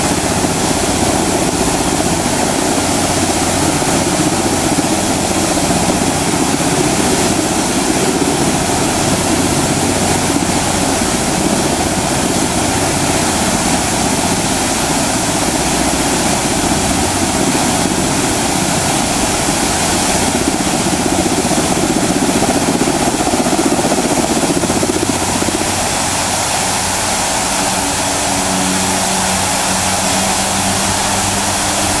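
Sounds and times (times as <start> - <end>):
fountain water jets splashing: 0.0 - 32.0.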